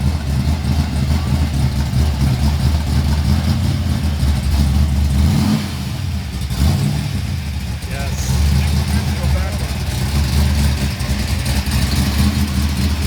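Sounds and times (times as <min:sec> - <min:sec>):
race car engine rumbling: 0:00.0 - 0:13.0.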